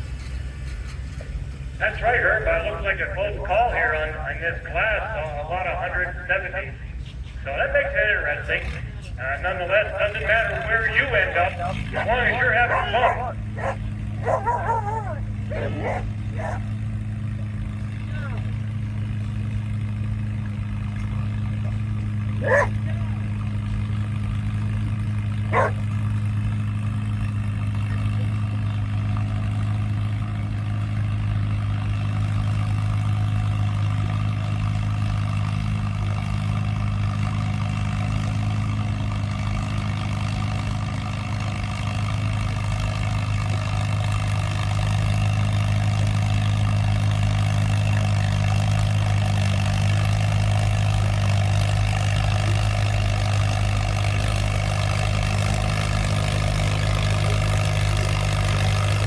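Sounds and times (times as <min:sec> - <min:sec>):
tractor engine running: 0:09.6 - 0:59.0.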